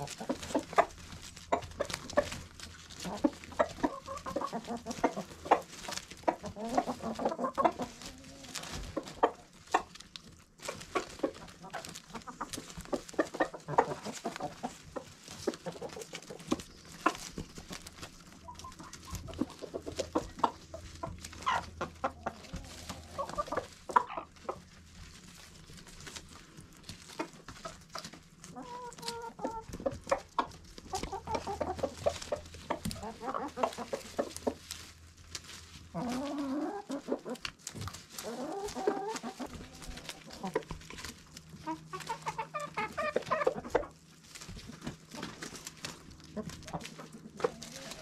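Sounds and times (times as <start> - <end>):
drawn-out hen call: 0.0 - 48.0
hens clucking: 0.0 - 48.0
hens pecking clicks: 0.0 - 48.0.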